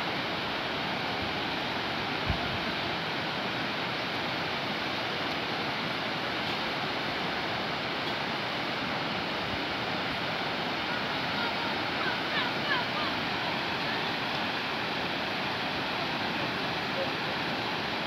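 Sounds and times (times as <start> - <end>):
whitewater rushing over rocks: 0.0 - 18.0.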